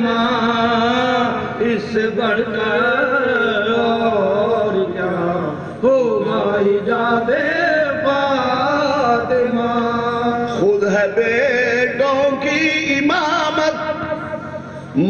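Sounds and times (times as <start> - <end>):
man chanting unaccompanied: 0.0 - 15.0.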